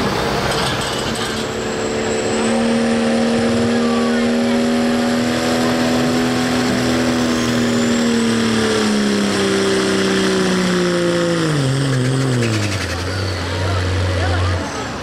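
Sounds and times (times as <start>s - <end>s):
diesel engine at full throttle: 0.0s - 15.0s.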